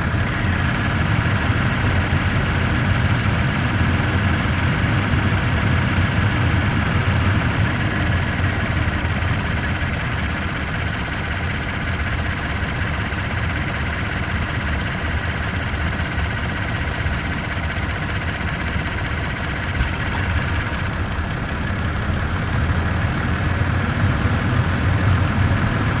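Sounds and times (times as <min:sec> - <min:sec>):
truck engine idling: 0:00.0 - 0:26.0
high-pitched ticking: 0:00.1 - 0:21.1.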